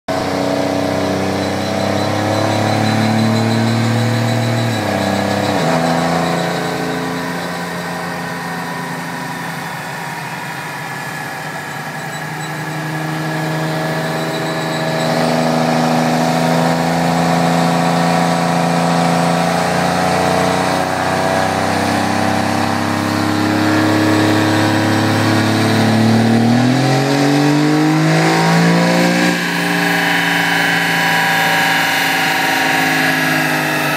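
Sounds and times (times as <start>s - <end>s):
diesel engine running hard: 0.1s - 33.9s.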